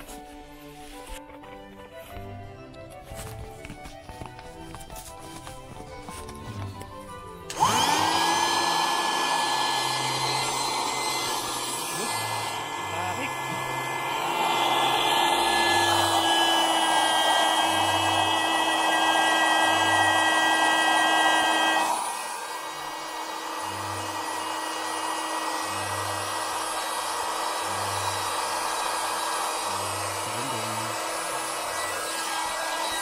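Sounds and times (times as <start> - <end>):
electric air pump running: 3.1 - 33.0.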